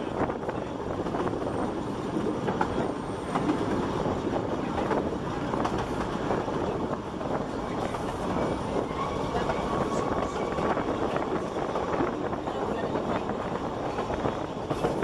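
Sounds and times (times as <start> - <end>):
rail clacks: 0.0 - 15.0
train wheels rumbling on rails: 0.0 - 15.0.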